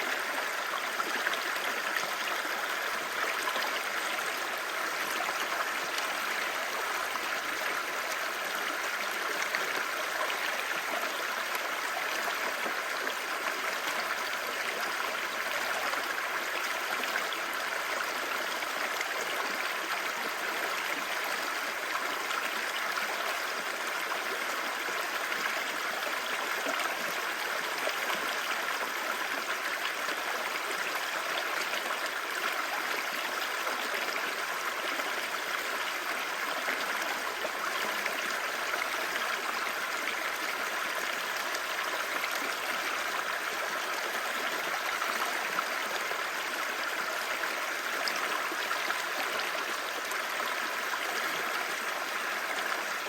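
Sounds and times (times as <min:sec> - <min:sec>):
stream babbling over rocks: 0:00.0 - 0:53.0.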